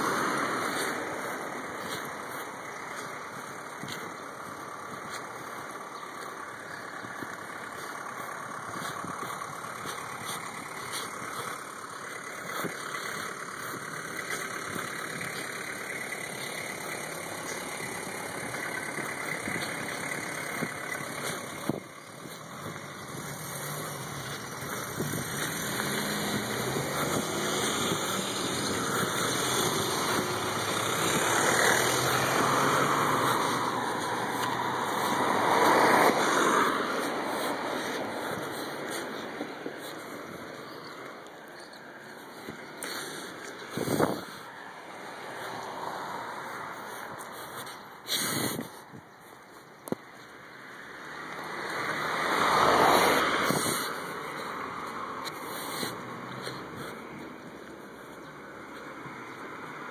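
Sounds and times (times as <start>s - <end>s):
cars driving past: 0.0s - 59.9s
vehicle engine approaching: 0.0s - 59.9s.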